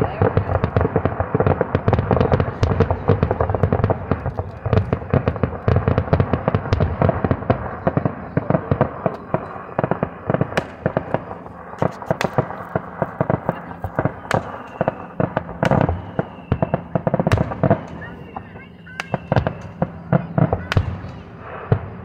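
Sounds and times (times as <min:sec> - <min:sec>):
fireworks cracks and bangs: 0:00.0 - 0:22.0.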